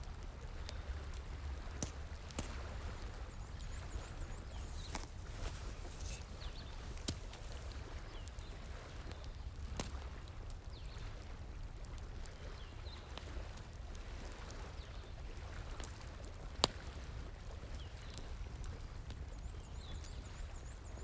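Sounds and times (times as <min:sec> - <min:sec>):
campfire crackling and popping: 0:00.0 - 0:19.6.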